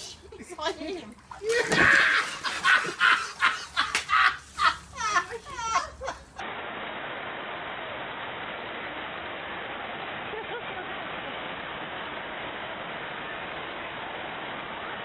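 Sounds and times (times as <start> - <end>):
water rushing up a slope: 0.9 - 15.0.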